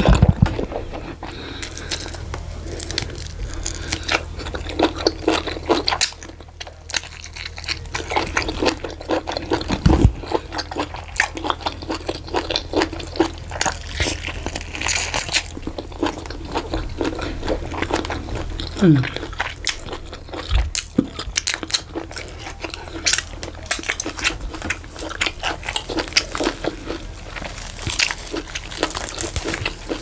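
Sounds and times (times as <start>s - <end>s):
person chewing meat: 0.0s - 30.0s.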